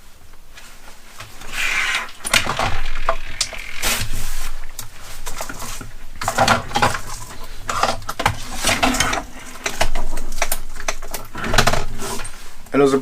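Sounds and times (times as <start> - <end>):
metal parts clicking and clinking: 1.8 - 12.5.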